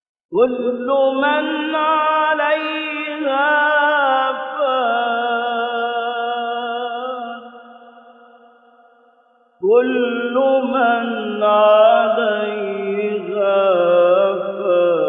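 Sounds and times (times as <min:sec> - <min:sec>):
man chanting melismatic recitation: 0:00.4 - 0:07.5, 0:09.6 - 0:15.0.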